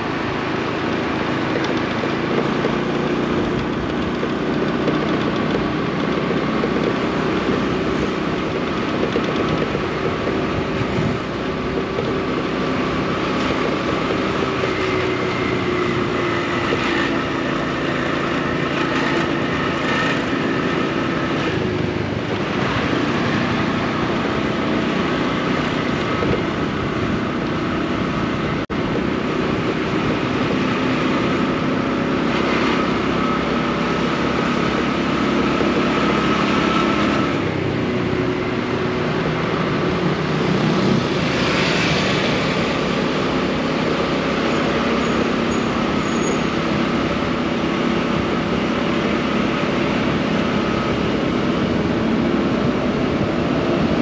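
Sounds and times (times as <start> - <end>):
city street background: 0.0 - 54.0
small motorcycle engine running: 0.0 - 54.0.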